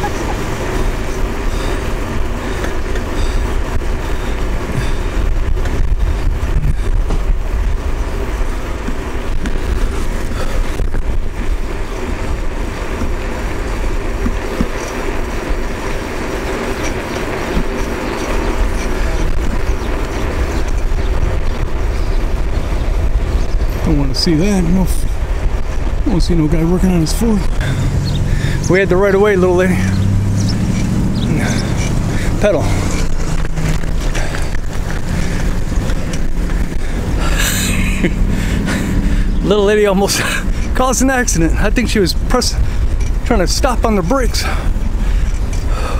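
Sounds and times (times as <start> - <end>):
bicycle rattling: 0.0 - 45.9
bicycle tyres rumbling on road: 0.0 - 45.9
wind buffeting microphone: 0.0 - 45.9.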